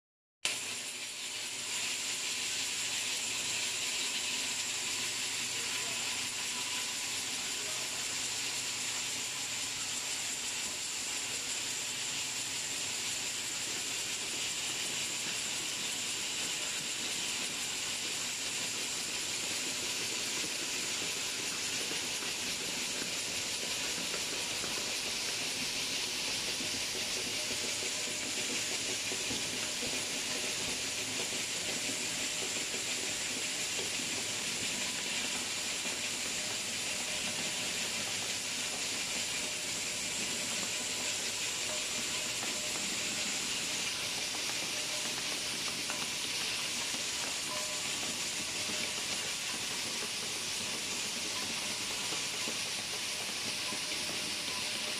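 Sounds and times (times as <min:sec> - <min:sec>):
machinery hissing with high whine: 0:00.5 - 0:54.9.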